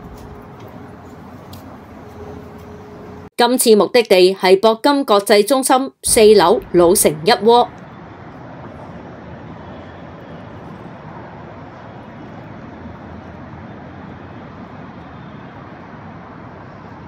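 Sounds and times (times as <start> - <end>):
distant traffic hum: 0.0 - 17.0.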